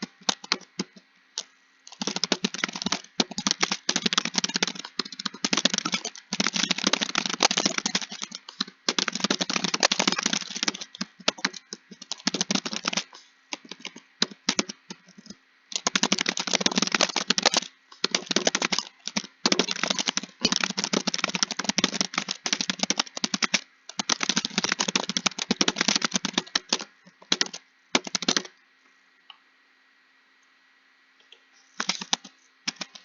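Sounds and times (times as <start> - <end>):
fast typing on keyboard: 0.0 - 28.5, 31.8 - 33.0.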